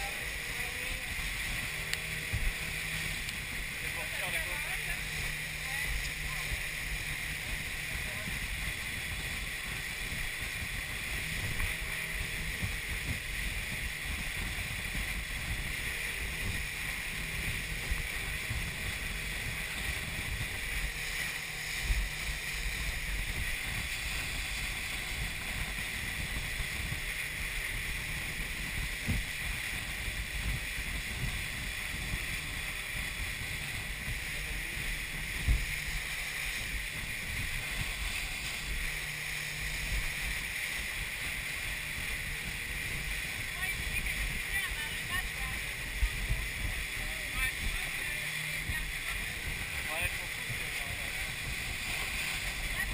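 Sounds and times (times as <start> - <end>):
motorboat engine: 0.0 - 52.9
water rushing against hull: 0.0 - 52.9.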